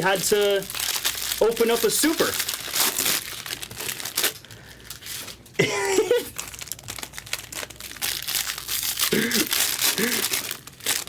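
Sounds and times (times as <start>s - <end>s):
foil wrappers crinkling and tearing: 0.0s - 11.0s.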